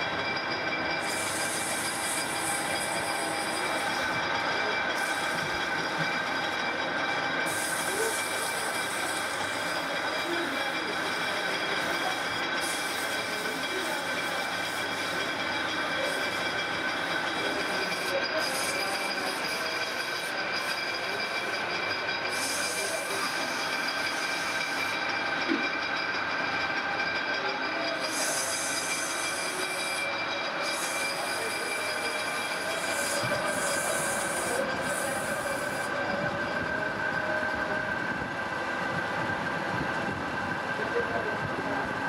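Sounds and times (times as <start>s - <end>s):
metal lathe whining: 0.0s - 42.0s.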